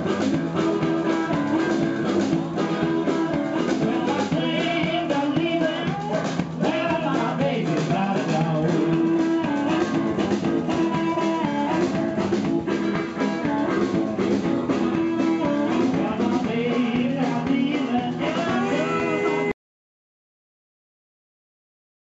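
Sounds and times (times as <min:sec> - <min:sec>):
live blues band: 0:00.0 - 0:19.5
man singing: 0:00.0 - 0:19.5.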